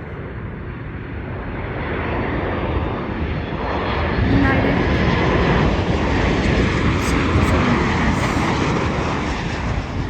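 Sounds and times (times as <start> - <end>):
jet engines roaring: 0.1 - 10.0.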